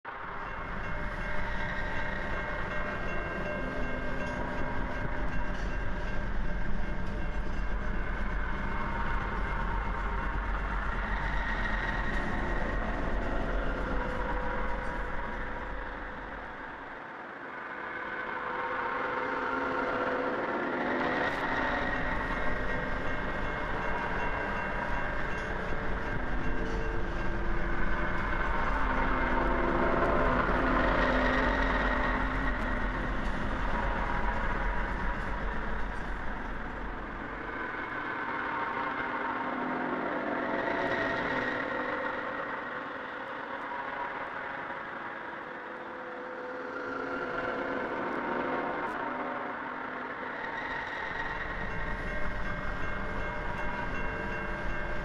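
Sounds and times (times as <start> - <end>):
train rumbling: 0.1 - 55.0.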